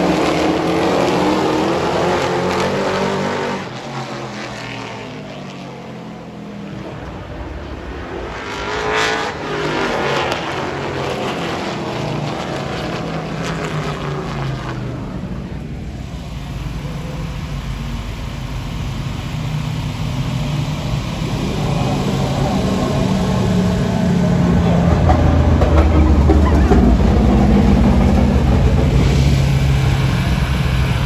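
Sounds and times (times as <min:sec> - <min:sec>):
race truck engines: 0:00.0 - 0:31.0
truck passing by: 0:00.0 - 0:31.0.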